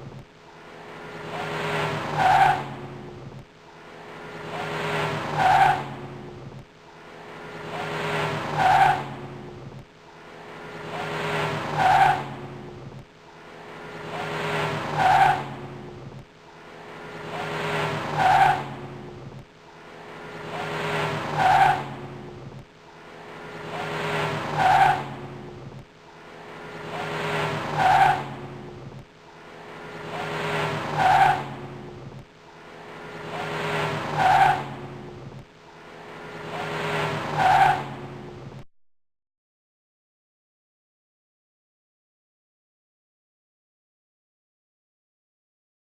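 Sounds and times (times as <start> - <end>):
car engine revving: 0.0 - 38.6.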